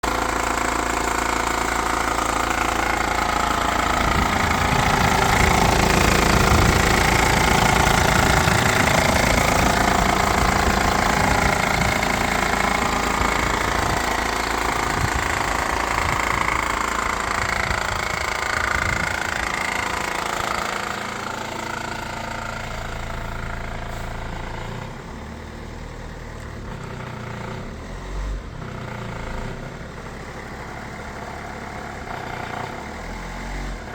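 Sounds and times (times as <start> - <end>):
engine idling with knocking clatter: 0.0 - 33.9.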